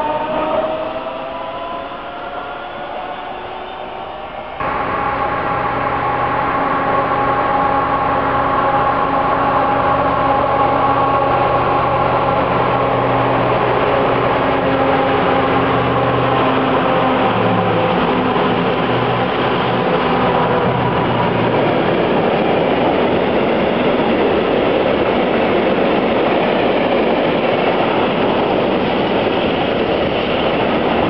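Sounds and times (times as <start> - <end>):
diesel locomotive engine humming: 0.0 - 31.0.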